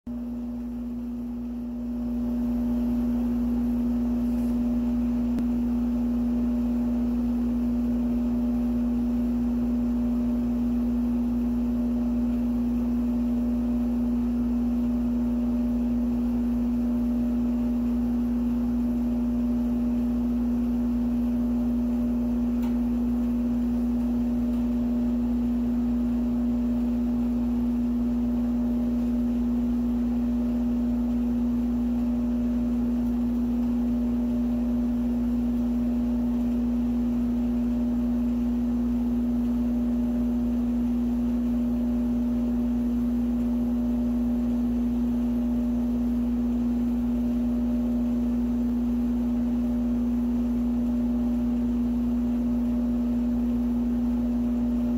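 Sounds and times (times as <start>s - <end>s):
steady low hum: 0.1s - 54.9s.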